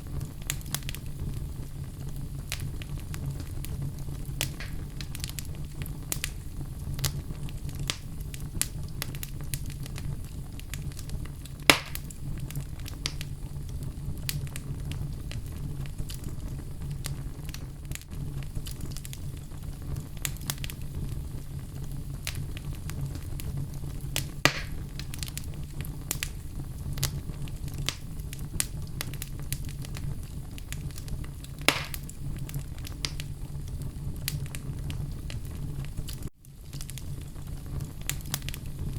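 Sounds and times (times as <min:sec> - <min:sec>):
fireplace fire crackling: 0:00.0 - 0:38.9
loud fire pops: 0:00.0 - 0:38.9.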